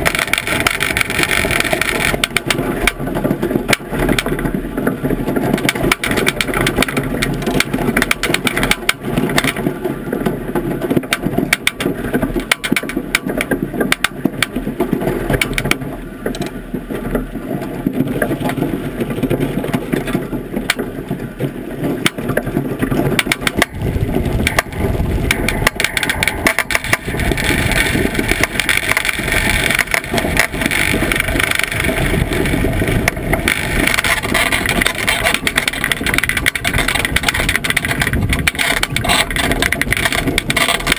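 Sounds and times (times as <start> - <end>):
boat clicks and rattles: 0.0 - 40.9.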